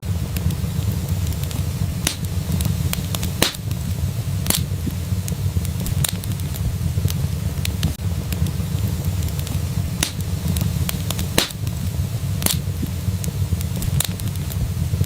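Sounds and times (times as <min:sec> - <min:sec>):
fire flames rumbling: 0:00.0 - 0:15.0
logs crackling and popping: 0:00.1 - 0:14.6.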